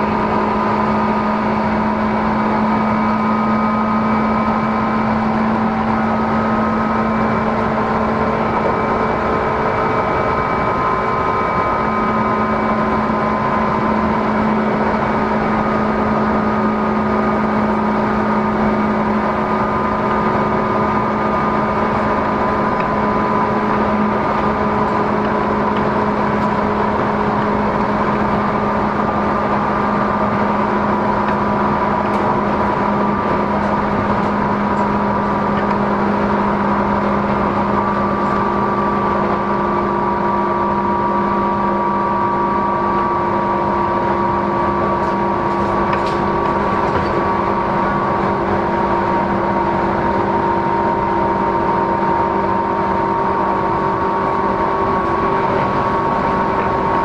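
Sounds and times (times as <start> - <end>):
traction motor whining tones: 0.0 - 57.0
train wheels rumbling on rail: 0.0 - 57.0.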